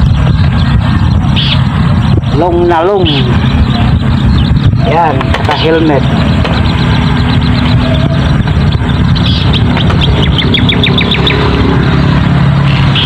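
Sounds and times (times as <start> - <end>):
engine running steadily: 0.0 - 13.0
small bird chirping: 0.0 - 13.0.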